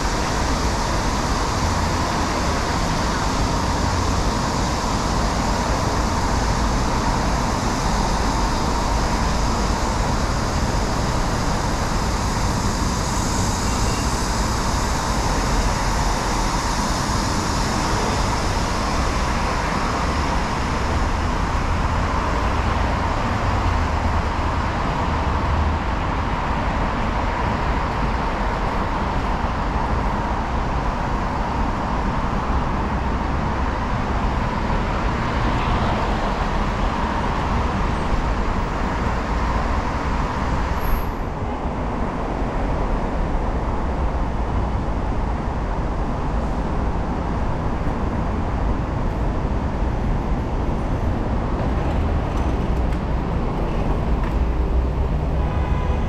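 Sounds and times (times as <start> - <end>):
city traffic noise: 0.0 - 56.0.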